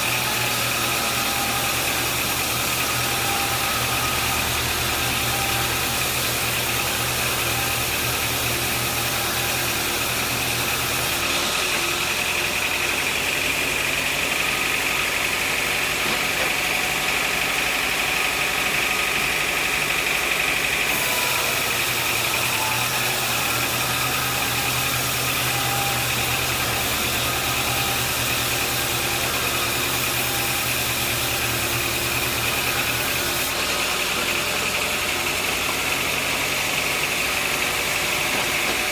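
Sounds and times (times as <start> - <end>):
sawmill engine hum: 0.0 - 38.9.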